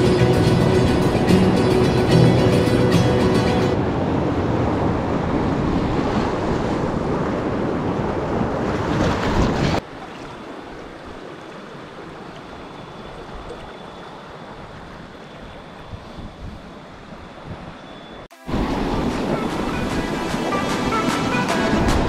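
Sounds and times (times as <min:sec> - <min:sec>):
rushing river water: 0:00.0 - 0:17.2, 0:18.3 - 0:22.0
current rippling past raft: 0:00.0 - 0:17.3, 0:18.3 - 0:22.0.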